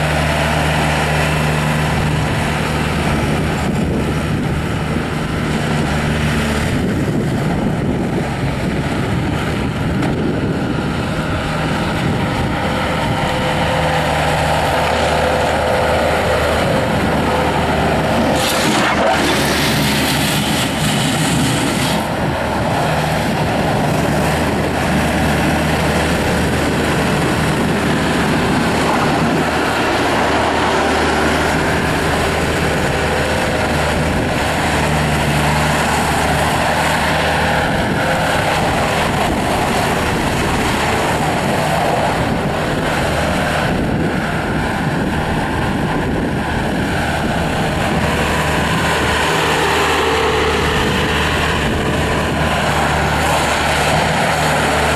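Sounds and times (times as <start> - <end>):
diesel engine running: 0.0 - 54.9
hydraulics working: 0.0 - 54.9.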